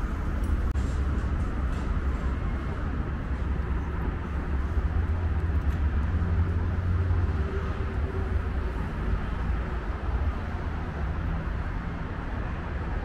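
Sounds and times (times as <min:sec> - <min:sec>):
low city rumble: 0:00.0 - 0:13.0.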